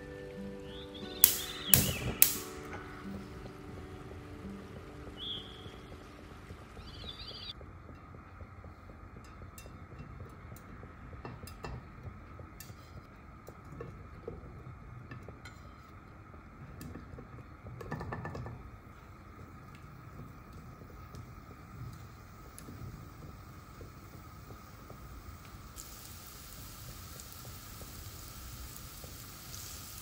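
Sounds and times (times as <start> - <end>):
cheese cubes tapping in frying pan: 1.0 - 30.0.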